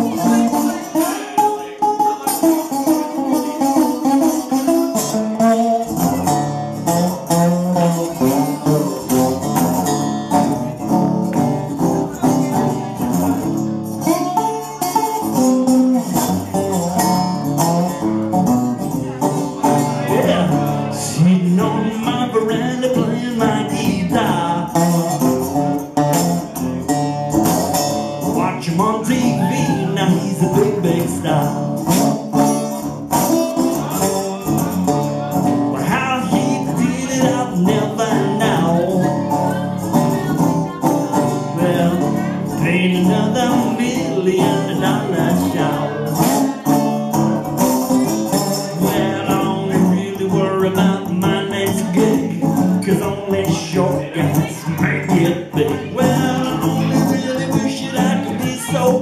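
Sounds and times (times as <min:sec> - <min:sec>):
man singing: 0:00.0 - 0:10.9, 0:11.8 - 0:27.1, 0:27.7 - 0:59.0
strummed acoustic guitar: 0:00.0 - 0:59.0.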